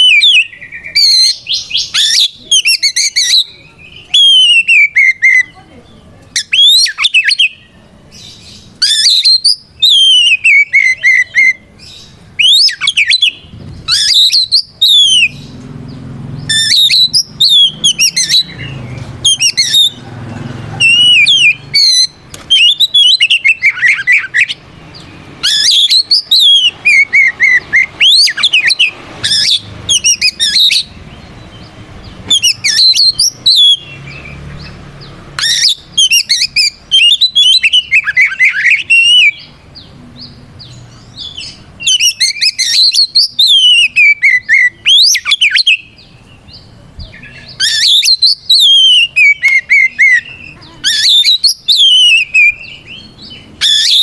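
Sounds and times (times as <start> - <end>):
bird singing whistles and trills: 0.0 - 54.0.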